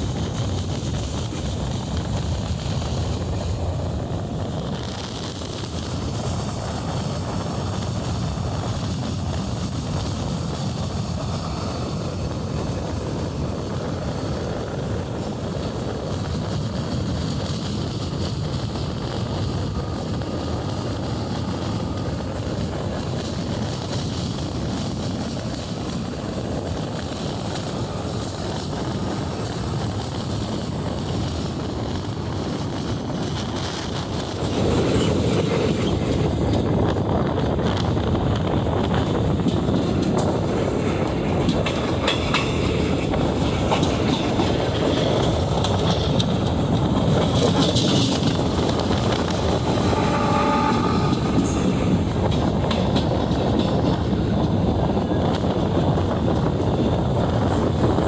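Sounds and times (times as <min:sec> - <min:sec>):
rushing air: 0:00.0 - 0:58.0
train wheels on rails: 0:00.0 - 0:58.0.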